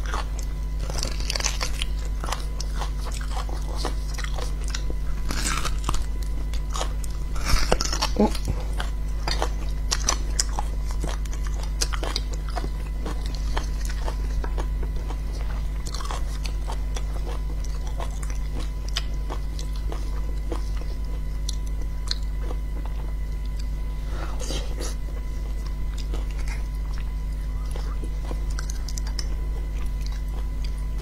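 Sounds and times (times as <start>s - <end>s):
steady low hum: 0.0s - 31.0s
wet chewing: 0.0s - 31.0s.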